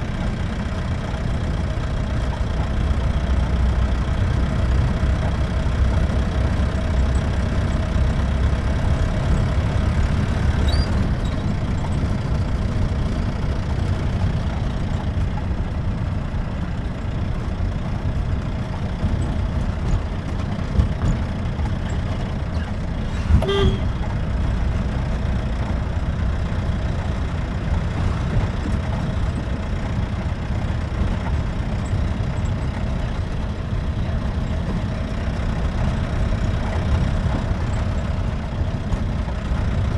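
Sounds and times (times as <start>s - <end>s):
engine running: 0.0s - 39.9s
road rumble: 0.0s - 39.9s.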